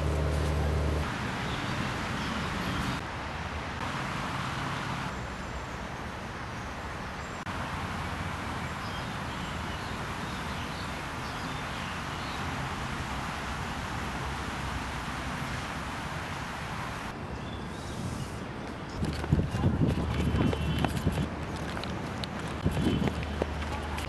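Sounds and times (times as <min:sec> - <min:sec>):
distant city traffic: 0:00.0 - 0:24.0.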